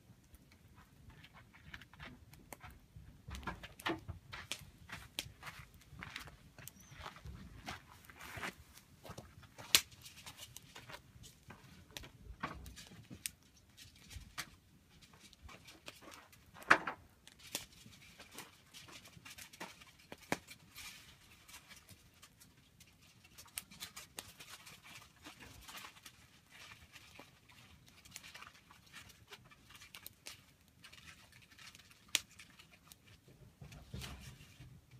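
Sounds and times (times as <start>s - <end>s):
campfire crackling and popping: 0.0s - 33.3s.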